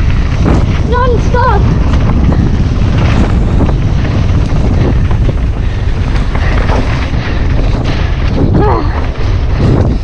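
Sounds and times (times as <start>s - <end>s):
bike rattling over bumps: 0.0s - 10.0s
tyre noise on dirt trail: 0.0s - 10.0s
wind buffeting microphone: 0.0s - 10.0s.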